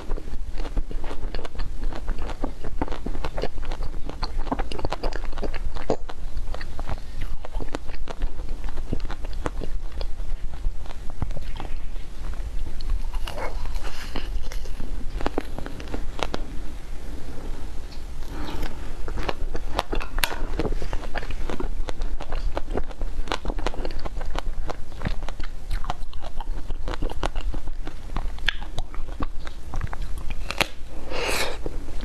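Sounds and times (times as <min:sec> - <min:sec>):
crunching and chewing ice cream: 0:00.0 - 0:32.0.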